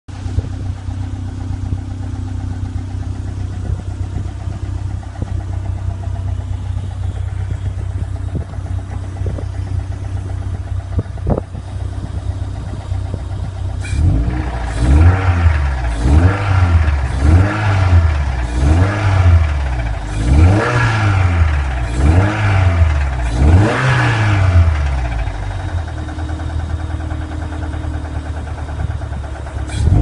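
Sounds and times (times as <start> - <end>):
car engine idling: 0.1 - 30.0
engine knocking: 0.1 - 30.0.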